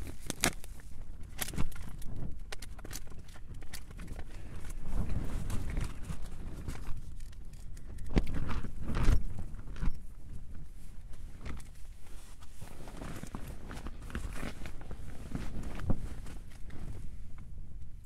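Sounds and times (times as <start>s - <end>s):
wind gusting against tent: 0.0s - 18.0s.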